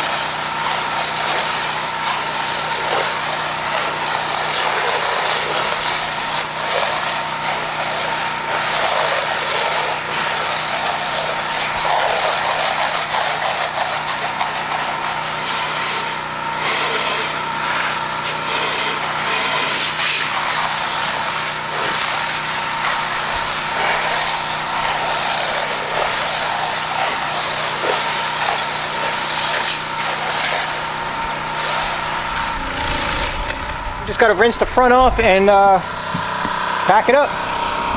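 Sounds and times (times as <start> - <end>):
high-pressure water spray hiss: 0.0 - 33.7
pressure washer engine drone: 0.0 - 37.9.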